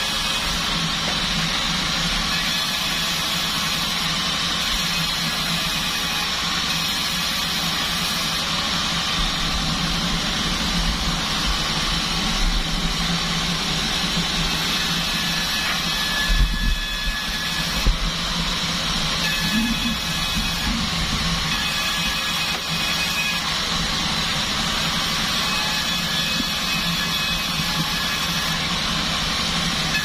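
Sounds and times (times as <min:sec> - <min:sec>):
band sawmill running: 0:00.0 - 0:30.0.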